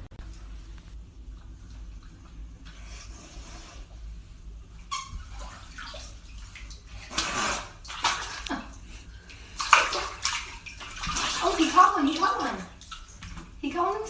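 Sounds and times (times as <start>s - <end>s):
water splashing and sloshing: 0.2s - 14.0s.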